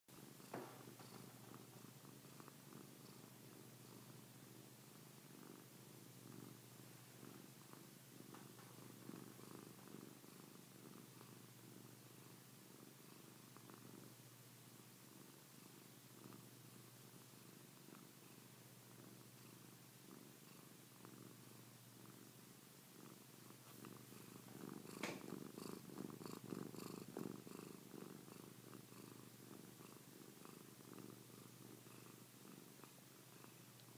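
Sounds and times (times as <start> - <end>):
cat purring: 0.1 - 33.9.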